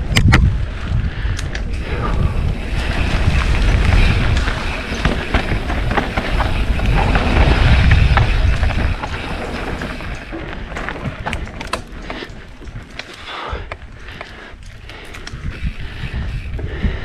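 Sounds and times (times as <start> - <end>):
bike rattling and clicking: 0.0 - 17.0
wind buffeting microphone: 0.0 - 17.0
tyres crunching over dirt: 1.7 - 15.4.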